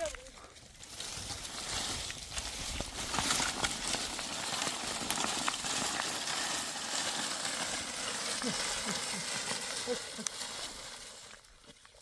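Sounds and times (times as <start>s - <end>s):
hooves on stony ground: 0.0s - 12.0s.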